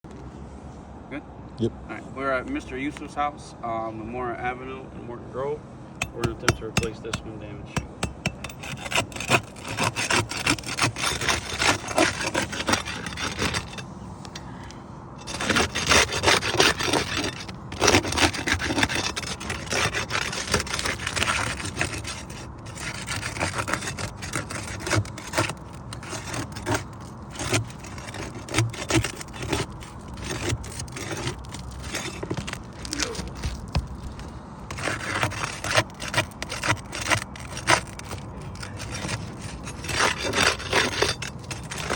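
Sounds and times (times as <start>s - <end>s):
tool scraping roof shingles: 6.0s - 14.5s, 15.2s - 41.9s.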